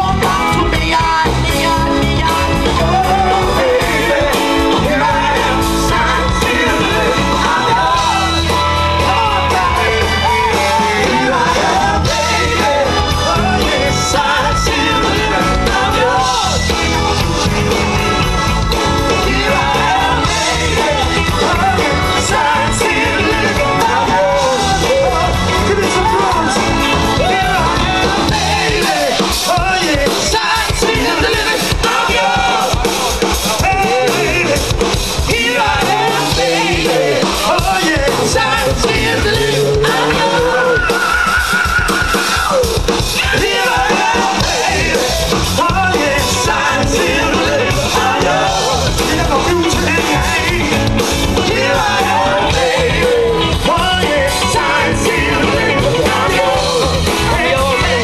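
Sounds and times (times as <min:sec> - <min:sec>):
live rock band playing: 0:00.0 - 0:58.0
singers singing lead vocals: 0:00.0 - 0:58.0.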